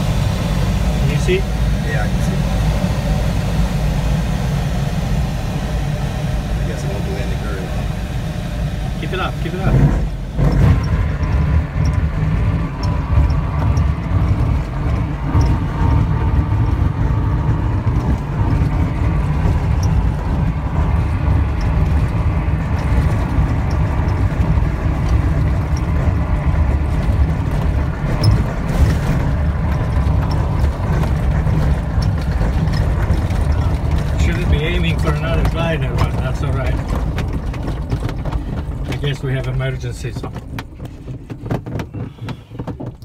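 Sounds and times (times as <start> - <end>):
glider wheel rumbling over grass: 4.0 - 43.0.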